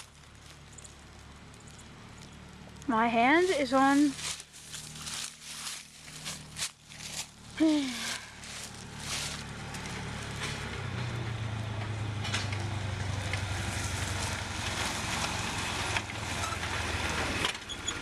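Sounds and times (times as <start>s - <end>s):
utility vehicle engine humming: 0.0s - 18.0s.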